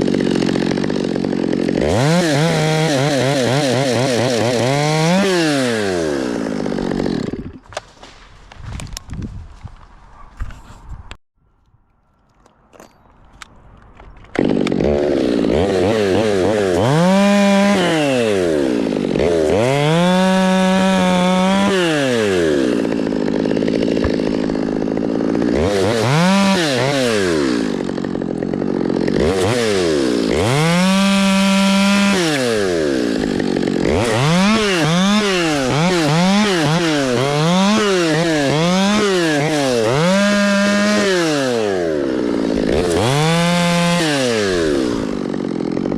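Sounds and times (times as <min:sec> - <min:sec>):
chainsaw engine revving: 0:00.0 - 0:07.6, 0:14.3 - 0:45.9.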